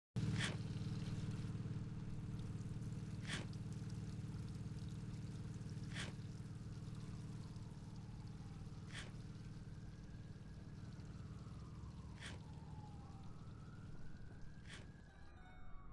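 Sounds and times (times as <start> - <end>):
low mechanical hum: 0.2 - 15.9.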